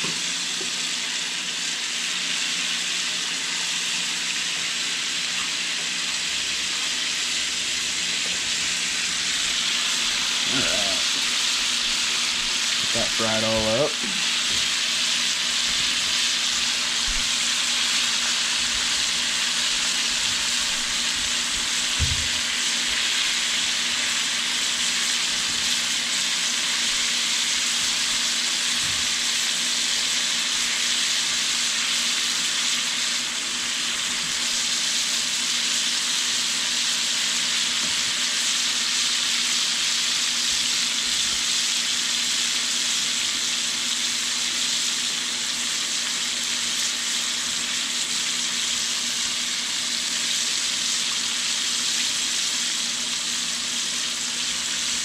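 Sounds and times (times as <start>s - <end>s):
fish deep-frying in hot oil: 0.0s - 55.0s.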